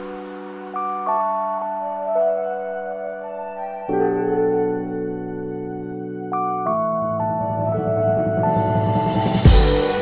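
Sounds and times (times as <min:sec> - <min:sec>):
soft ambient music: 0:00.0 - 0:10.0.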